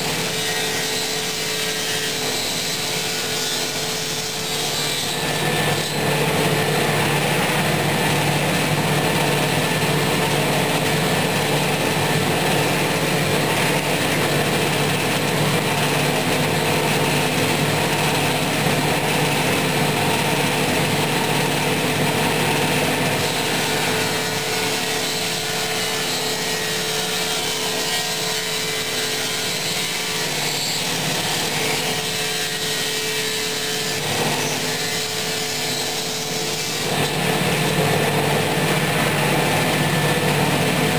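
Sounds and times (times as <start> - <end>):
table saw cutting wood: 0.0 - 40.9.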